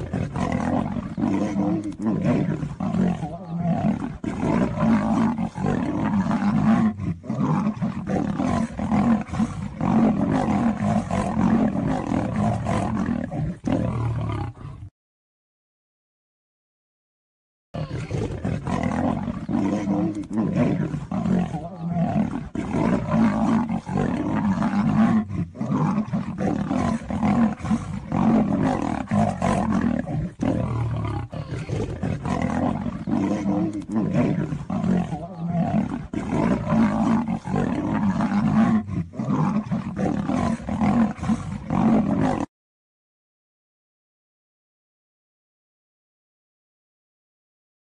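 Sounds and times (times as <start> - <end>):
big cats roaring and snarling: 0.0 - 14.9, 17.8 - 42.5.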